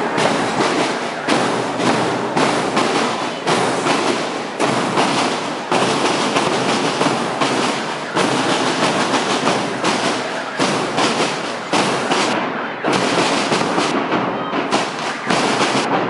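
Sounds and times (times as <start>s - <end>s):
marching drum cadence: 0.0s - 16.0s.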